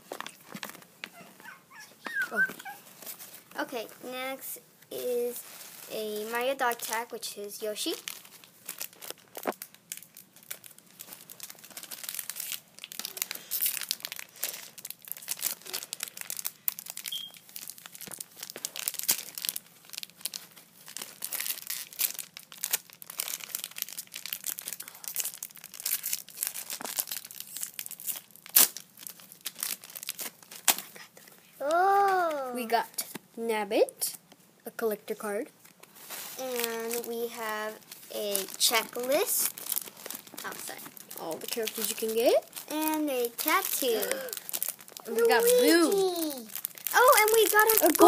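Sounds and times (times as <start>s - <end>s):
plastic packaging crackling and tearing: 0.0s - 1.3s, 4.9s - 33.2s, 35.6s - 48.0s.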